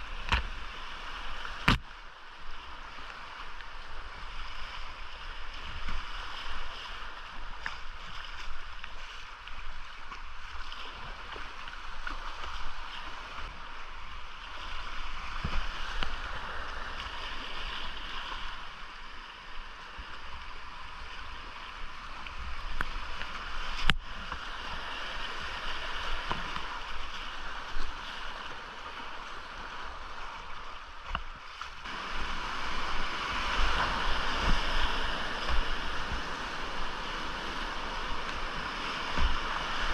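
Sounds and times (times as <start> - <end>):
rushing creek whitewater: 0.0 - 39.9.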